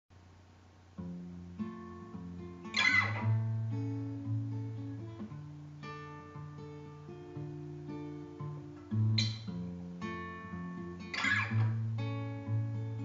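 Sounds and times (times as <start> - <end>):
acoustic guitar playing: 0.9 - 13.0.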